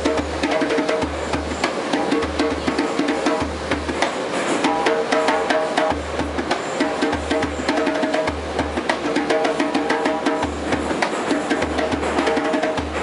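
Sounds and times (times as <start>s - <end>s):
dhol drum slaps: 0.0s - 13.0s.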